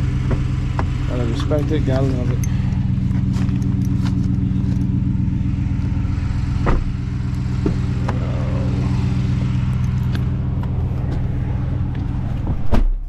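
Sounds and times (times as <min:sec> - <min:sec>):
truck engine idling: 0:00.0 - 0:12.6.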